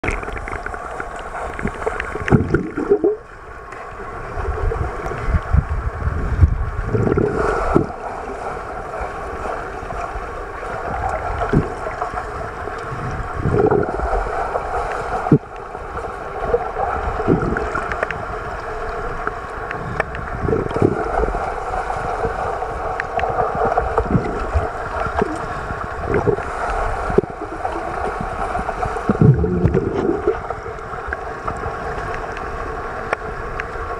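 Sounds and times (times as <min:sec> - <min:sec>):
muffled underwater rushing and bubbling: 0:00.0 - 0:33.9.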